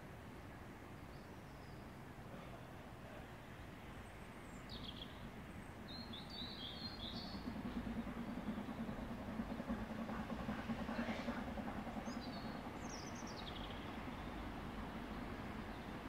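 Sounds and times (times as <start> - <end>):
distant train rumble: 0.0 - 16.0.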